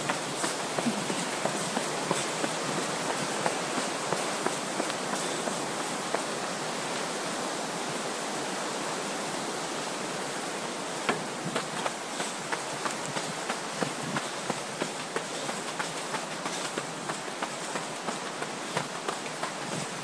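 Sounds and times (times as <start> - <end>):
footsteps on trail: 0.0 - 7.2, 10.9 - 20.0
creek flowing over rocks: 0.0 - 20.0.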